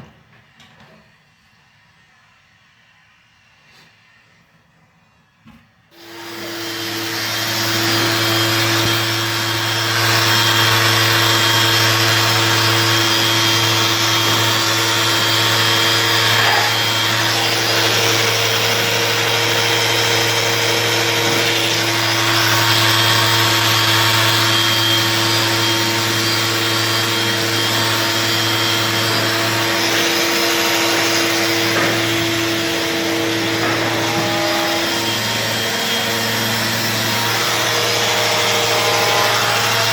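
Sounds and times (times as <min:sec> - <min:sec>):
orbital sander humming and hissing: 0:06.0 - 0:39.9.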